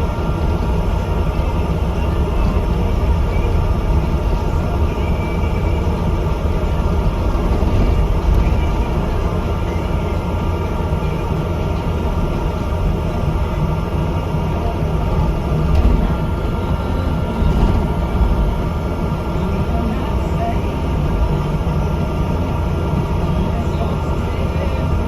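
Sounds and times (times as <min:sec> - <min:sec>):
diesel bus engine drone: 0:00.0 - 0:25.0
faint whining tones: 0:00.0 - 0:25.0
road rumble: 0:00.0 - 0:25.0.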